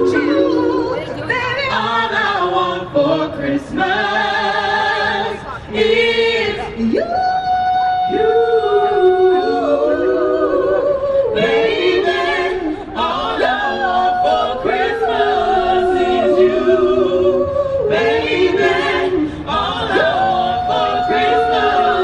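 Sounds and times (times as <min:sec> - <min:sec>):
vocal group singing harmony: 0:00.0 - 0:22.0.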